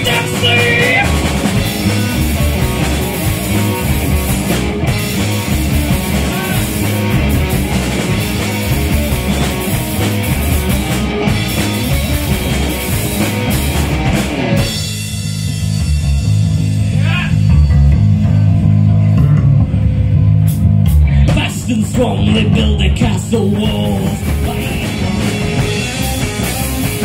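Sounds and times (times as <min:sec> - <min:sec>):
drum kit with cymbals: 0:00.0 - 0:19.5, 0:20.5 - 0:27.0
bass guitar: 0:00.0 - 0:27.0
electric guitars: 0:00.0 - 0:27.0.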